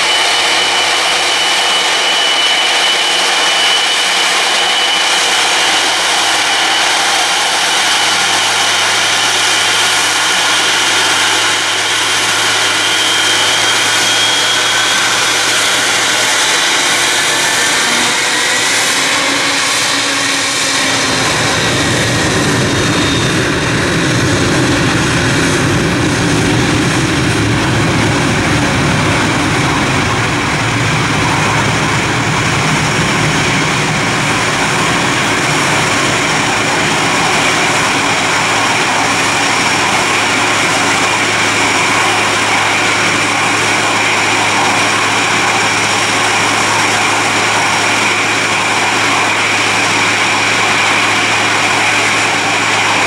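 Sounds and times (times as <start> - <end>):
jet engines whining: 0.0 - 53.0
deep rumble: 5.0 - 47.8.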